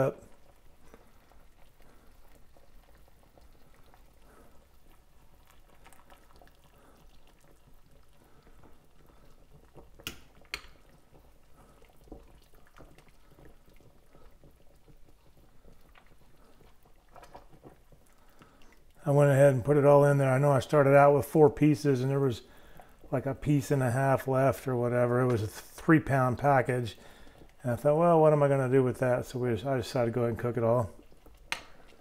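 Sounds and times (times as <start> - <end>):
faint liquid sounds in pot: 0.0 - 32.0.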